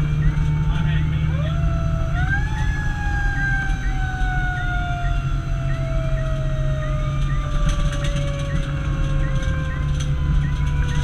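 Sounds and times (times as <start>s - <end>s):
fire engine siren: 0.0s - 11.0s
road noise: 0.0s - 11.0s
truck engine drone: 0.0s - 11.0s.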